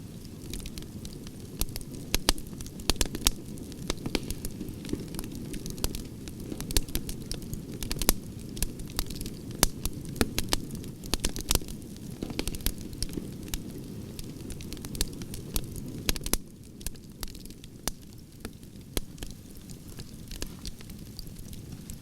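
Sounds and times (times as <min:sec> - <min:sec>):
campfire crackling and popping: 0:00.0 - 0:22.0
low rush of flames: 0:00.0 - 0:22.0.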